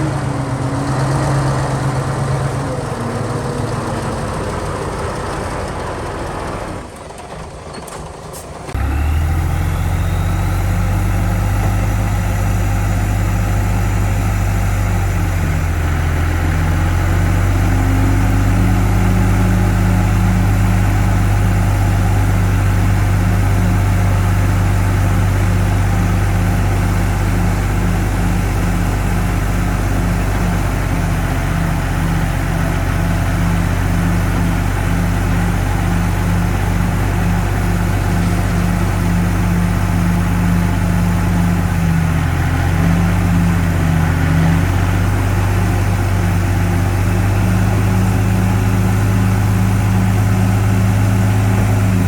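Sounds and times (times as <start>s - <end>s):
heavy diesel engine humming: 0.0s - 52.0s.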